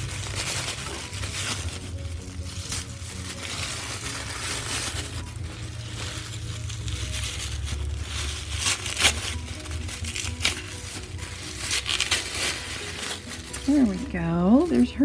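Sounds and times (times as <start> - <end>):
sharp paper crackles: 0.0 - 15.0
tissue paper crinkling: 0.0 - 15.0.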